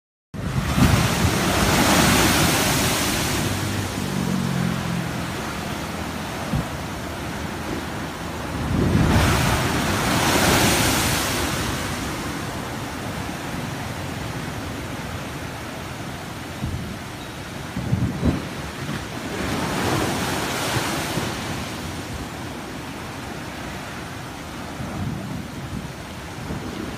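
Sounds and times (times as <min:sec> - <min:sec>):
waves crashing against seawall: 0:00.4 - 0:26.9
churning water hissing: 0:00.5 - 0:24.9.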